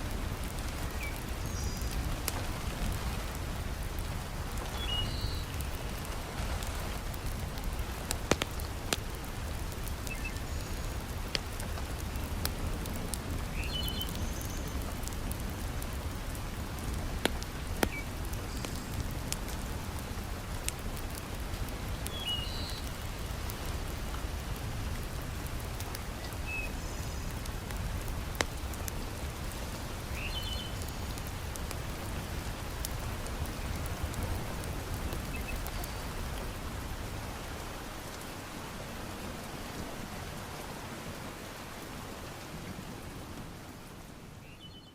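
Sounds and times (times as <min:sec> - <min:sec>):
wood fire crackling: 0:00.0 - 0:43.8
heavy rain falling: 0:00.0 - 0:44.6.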